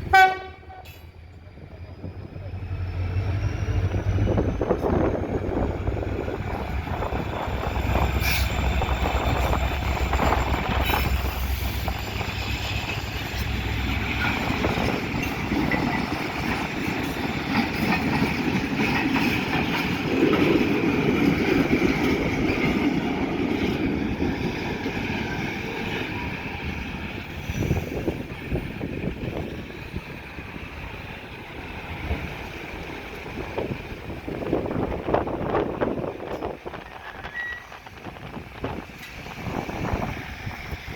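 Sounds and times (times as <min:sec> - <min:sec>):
diesel locomotive rumble: 0:00.0 - 0:40.9
train wheels clicking over rails: 0:02.1 - 0:40.9.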